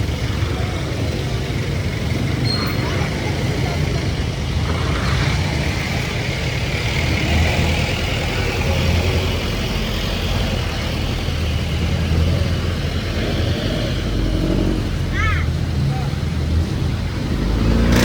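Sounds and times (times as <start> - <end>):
road noise hiss: 0.0 - 18.0
vehicle engine rumbling: 0.0 - 18.0.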